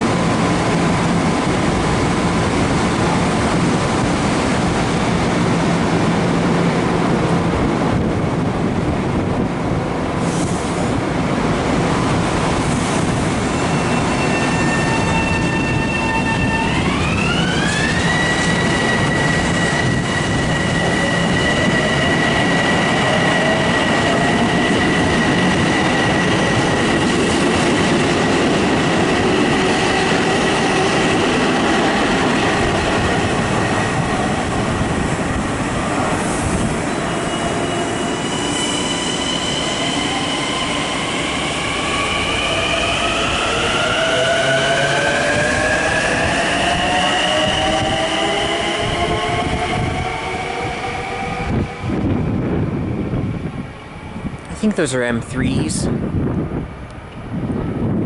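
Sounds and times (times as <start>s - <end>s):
train wheel and rail noise: 0.0s - 58.0s.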